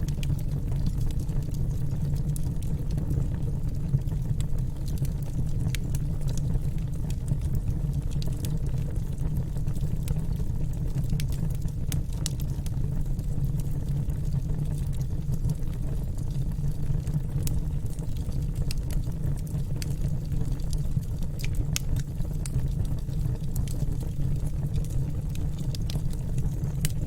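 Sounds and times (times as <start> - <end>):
burning wood crackling and popping: 0.0 - 27.0
fire rumbling: 0.0 - 27.0.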